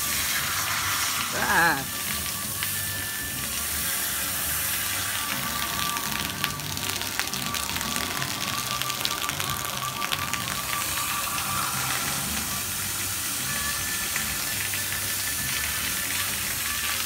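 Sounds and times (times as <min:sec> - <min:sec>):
music: 0:00.0 - 0:17.0
running water hiss: 0:00.0 - 0:17.0.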